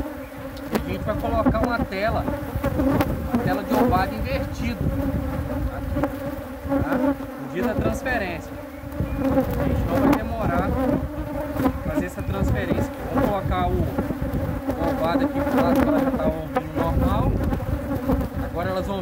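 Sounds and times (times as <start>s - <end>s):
bees buzzing hum: 0.0s - 19.0s
single bees whining past: 0.0s - 19.0s.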